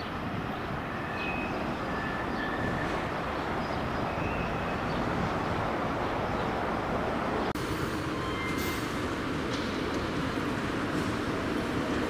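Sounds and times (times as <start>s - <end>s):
freight train rumbling on rails: 0.0s - 12.0s
steady background noise: 0.0s - 12.0s.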